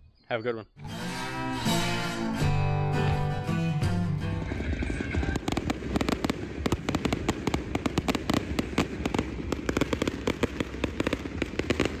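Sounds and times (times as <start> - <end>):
fireworks crackling and banging: 1.9 - 12.0.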